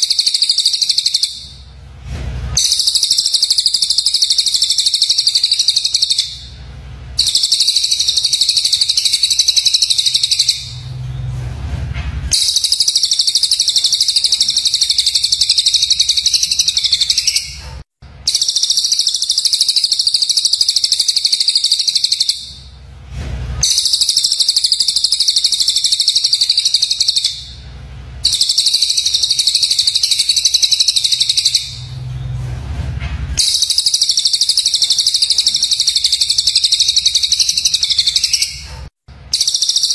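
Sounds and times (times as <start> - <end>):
harsh high-pitched bird calls: 0.0 - 1.7, 2.6 - 11.0, 12.3 - 22.8, 23.6 - 32.0, 33.4 - 39.9.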